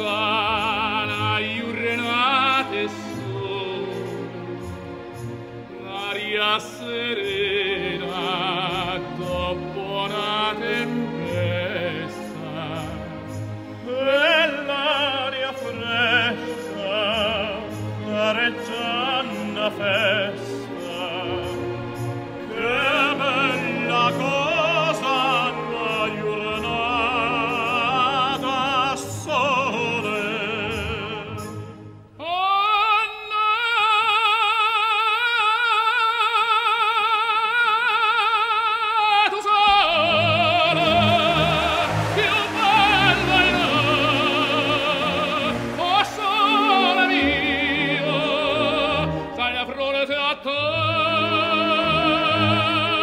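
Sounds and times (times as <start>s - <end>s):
orchestra playing: 0.0s - 32.9s, 39.5s - 53.0s
operatic singing: 0.0s - 53.0s.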